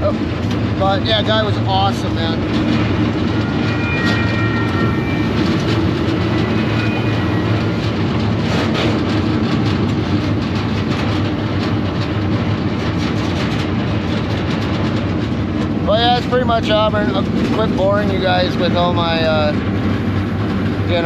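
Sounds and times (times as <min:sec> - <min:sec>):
train rumble and rattling: 0:00.0 - 0:21.0
wheels clickety-clack over track: 0:00.0 - 0:21.0.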